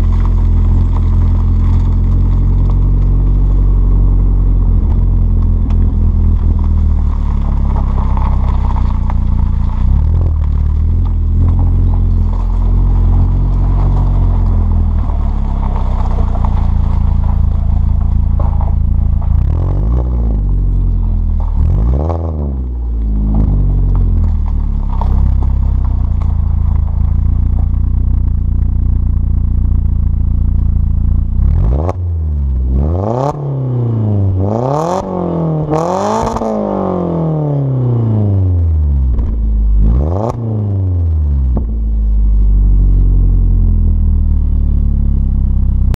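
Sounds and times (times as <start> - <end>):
car exhaust droning: 0.0 - 45.9
tyres crunching on gravel: 0.0 - 45.9.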